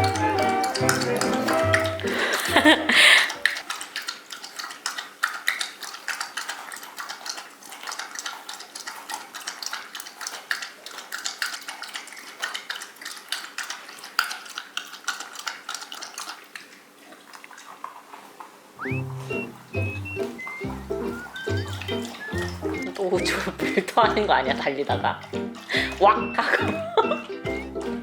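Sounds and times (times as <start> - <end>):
dog lapping water from dish: 0.0 - 28.0.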